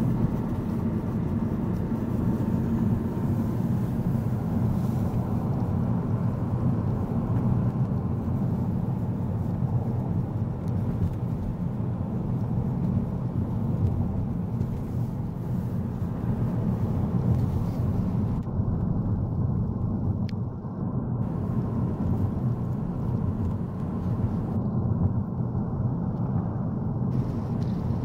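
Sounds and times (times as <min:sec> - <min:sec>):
car interior road rumble: 0:00.0 - 0:28.0.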